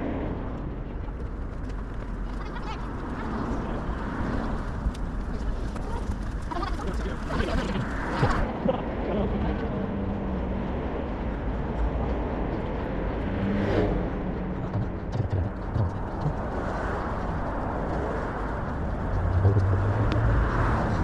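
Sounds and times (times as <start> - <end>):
low engine hum: 0.0 - 21.0
vehicle passing by: 2.9 - 21.0.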